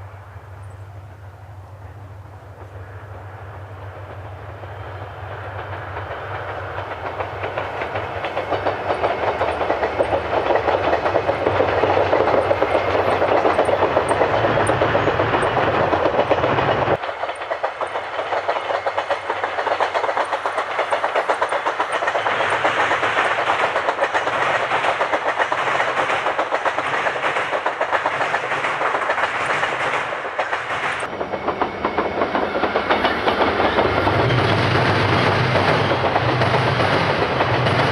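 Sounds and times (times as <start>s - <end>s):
electric train running: 1.8s - 37.9s
wheels clicking over rail joints: 5.2s - 37.9s.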